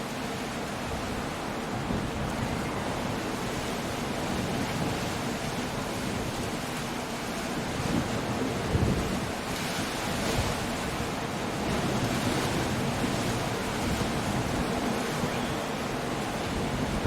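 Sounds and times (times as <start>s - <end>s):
stormy sea surf breaking: 0.0s - 17.0s
strong wind: 0.0s - 17.0s.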